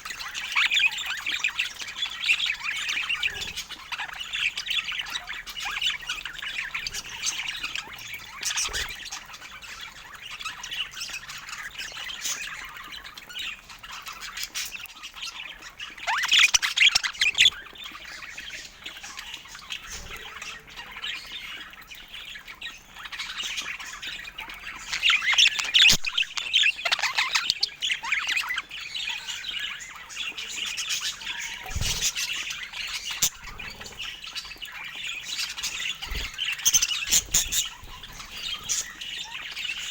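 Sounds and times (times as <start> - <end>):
bird squawks and chirps: 0.0 - 39.9
budgerigars chattering: 0.0 - 39.9.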